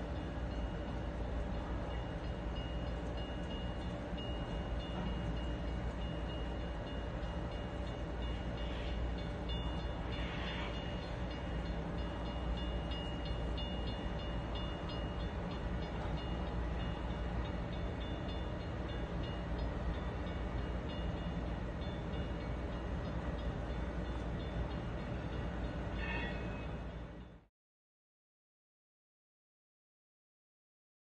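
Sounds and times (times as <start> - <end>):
diesel freight train rumbling: 0.0 - 27.4.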